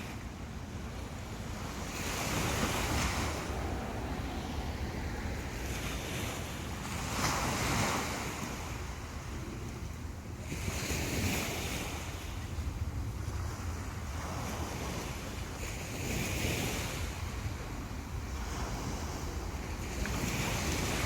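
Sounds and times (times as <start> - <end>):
sea waves breaking: 0.0 - 21.0
wind rumbling on microphone: 0.0 - 21.0.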